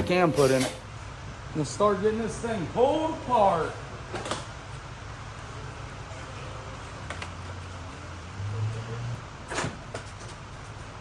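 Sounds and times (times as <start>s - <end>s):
low shop hum: 0.0s - 11.0s.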